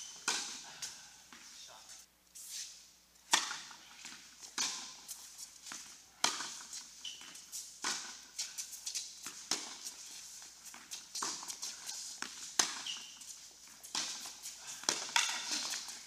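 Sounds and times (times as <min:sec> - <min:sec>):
tennis ball hits and bounces: 0:00.1 - 0:00.6, 0:03.2 - 0:16.0.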